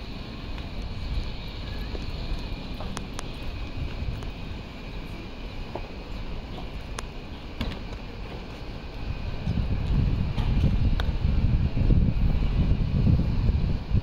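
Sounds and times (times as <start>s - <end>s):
low rumble of city ambience: 0.0s - 14.0s.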